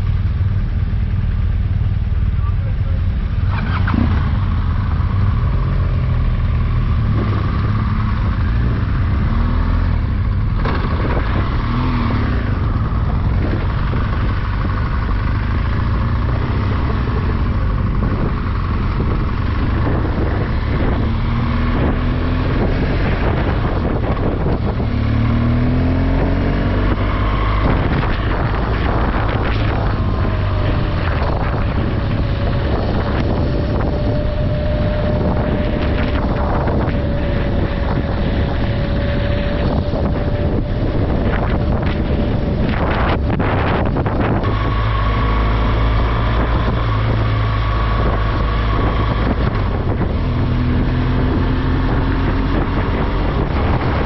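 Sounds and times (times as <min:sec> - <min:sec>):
road rumble: 0:00.0 - 0:54.0
vehicle engine running: 0:00.0 - 0:54.0
wind noise: 0:03.4 - 0:54.0.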